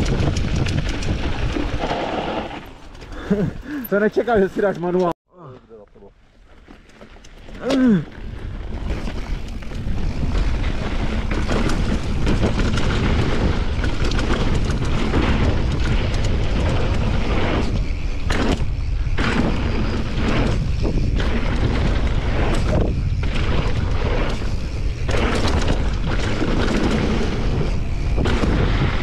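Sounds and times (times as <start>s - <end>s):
wind on microphone: 0.0s - 2.6s, 8.2s - 29.0s
bike tyres on gravel: 0.0s - 4.5s, 5.7s - 29.0s.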